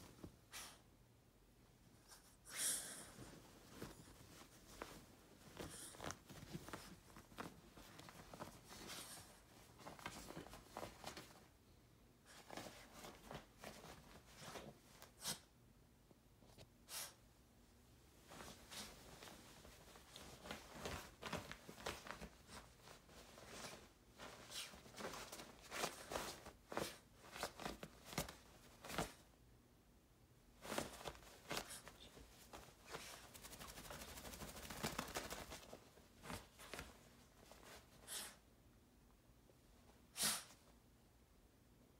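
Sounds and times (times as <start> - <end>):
bedding rustling: 0.0 - 0.9, 1.6 - 11.6, 12.2 - 15.3, 16.3 - 29.4, 30.4 - 38.4.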